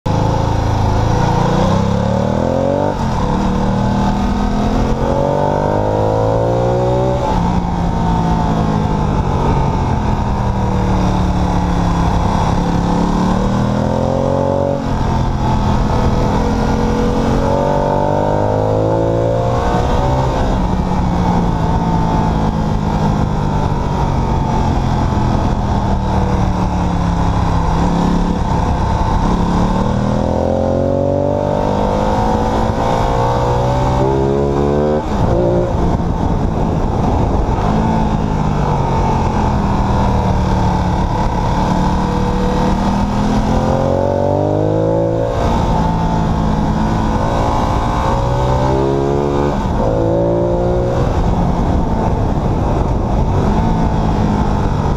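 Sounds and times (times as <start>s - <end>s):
motorcycle engine revving: 0.1s - 54.9s.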